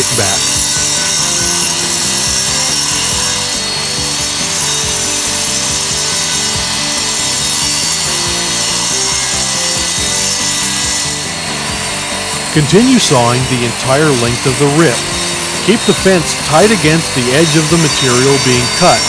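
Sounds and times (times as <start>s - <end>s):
circular saw cutting wood: 0.0s - 19.0s.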